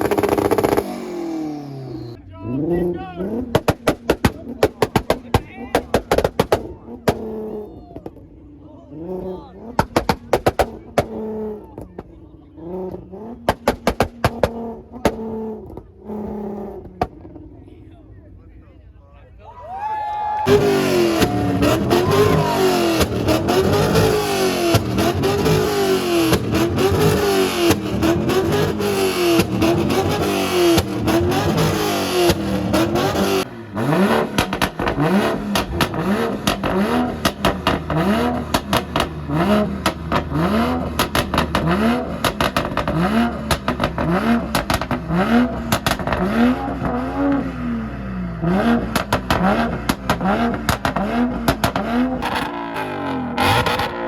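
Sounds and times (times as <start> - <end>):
car engine revving: 0.0 - 18.3, 20.4 - 54.0.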